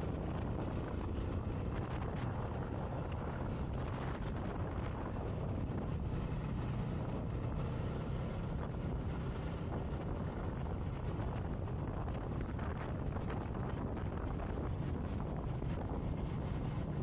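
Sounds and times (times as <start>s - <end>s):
motorcycle engine drone: 0.0s - 17.0s
wind rushing over microphone: 0.0s - 17.0s.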